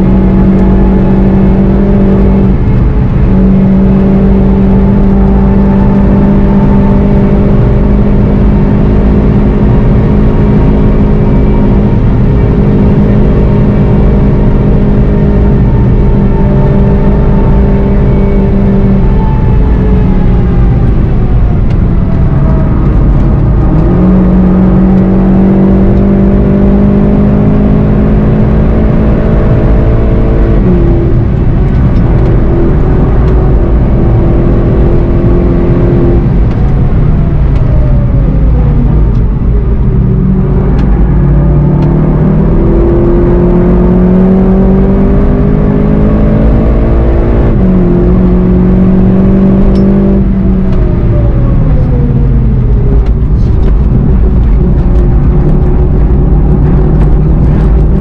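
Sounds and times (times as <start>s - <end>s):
car engine pulling hard: 0.0s - 58.0s
road and wind noise: 0.0s - 58.0s.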